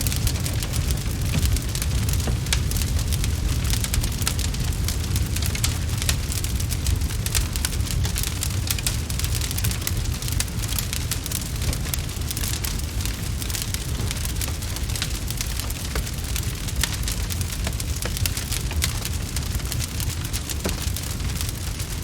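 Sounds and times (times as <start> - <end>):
fire low rumble: 0.0 - 22.0
fire pops and snaps: 0.0 - 22.0.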